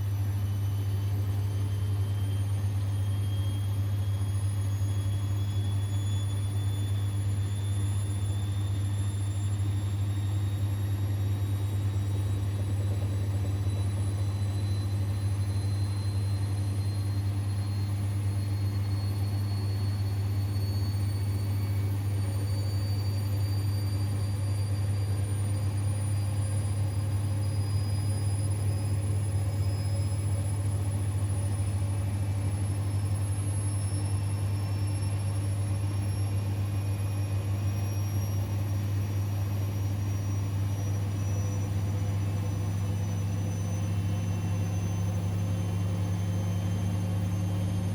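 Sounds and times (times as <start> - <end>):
motor whine rising in pitch: 0.0 - 47.9.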